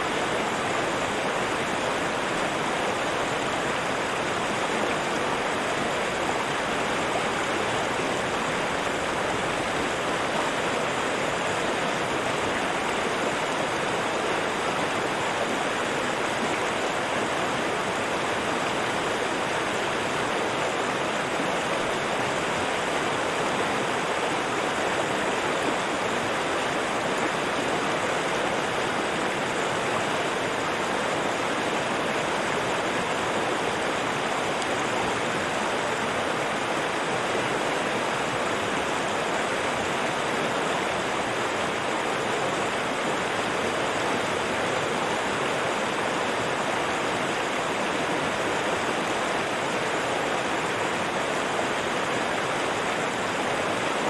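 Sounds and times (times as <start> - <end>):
river water rushing and splashing: 0.0 - 54.0.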